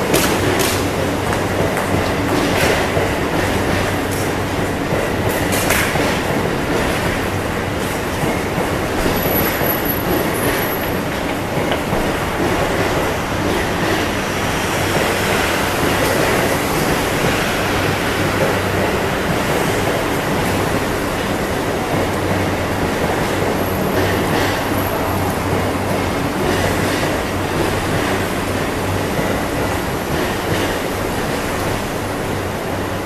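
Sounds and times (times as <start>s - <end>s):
rail-joint clicks: 0.0s - 32.2s
train wheels on rails: 0.0s - 33.0s.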